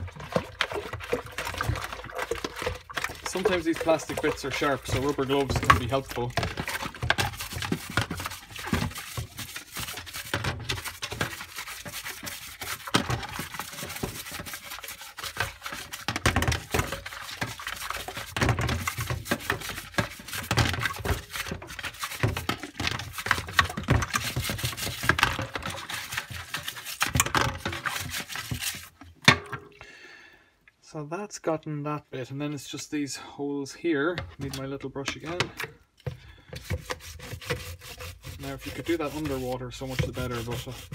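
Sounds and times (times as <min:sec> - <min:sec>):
scrubbing plastic parts: 0:00.0 - 0:29.8, 0:34.0 - 0:40.9.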